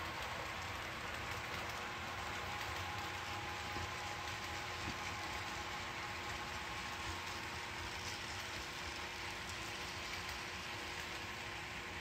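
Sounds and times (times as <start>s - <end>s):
small wheels hissing on track: 0.0s - 12.0s.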